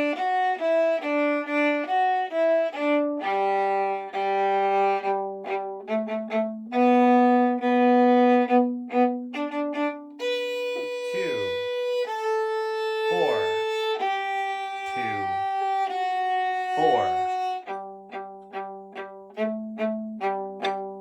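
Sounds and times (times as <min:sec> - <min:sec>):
violin playing a tune: 0:00.0 - 0:21.0.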